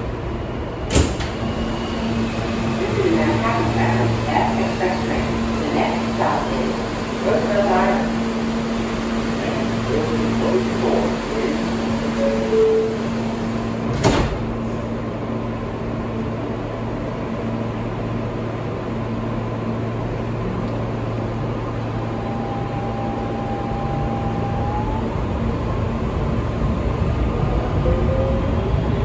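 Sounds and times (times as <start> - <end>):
subway car hum and rumble: 0.0 - 29.0.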